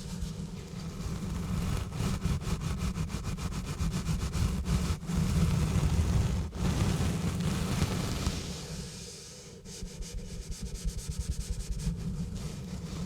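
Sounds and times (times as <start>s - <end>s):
gloves rubbing on microphone: 0.0s - 9.1s, 9.7s - 13.0s
scratchy strokes: 0.0s - 13.0s.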